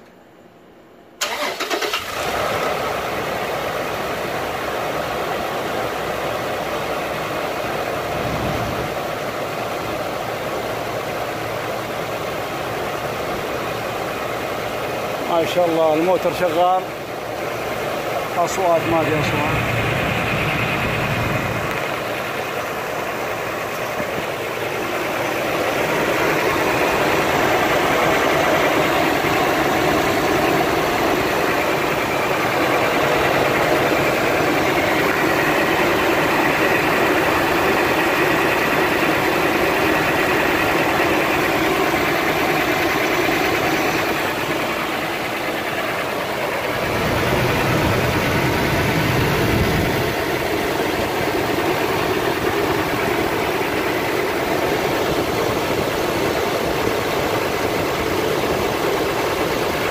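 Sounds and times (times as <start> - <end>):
car engine idling: 1.2 - 59.9
drive belt running: 1.2 - 59.9.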